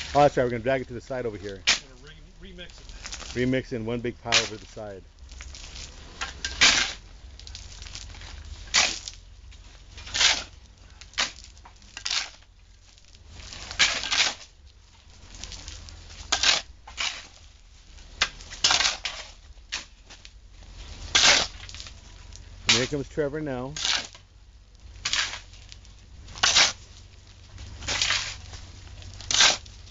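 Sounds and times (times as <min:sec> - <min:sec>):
shovels scraping sand: 0:00.0 - 0:12.5, 0:13.2 - 0:29.9.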